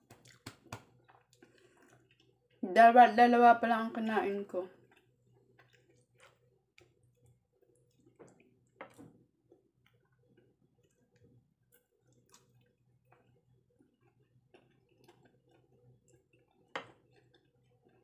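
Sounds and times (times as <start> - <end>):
soft mouth sounds of eating: 0.1 - 2.6, 4.8 - 18.0.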